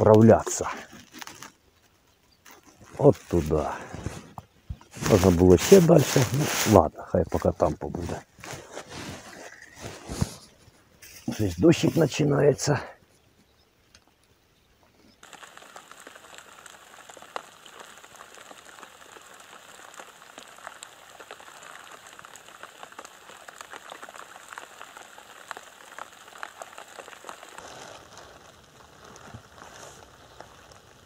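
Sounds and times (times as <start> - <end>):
light rain pattering on water: 0.0 - 13.0, 13.7 - 31.0.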